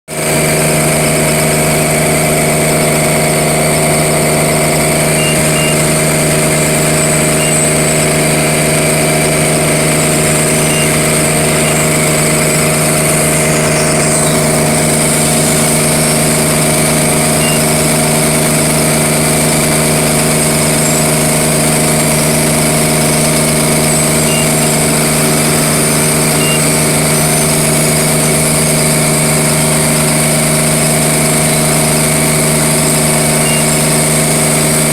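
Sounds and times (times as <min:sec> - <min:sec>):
milling machine drone: 0:00.1 - 0:34.9.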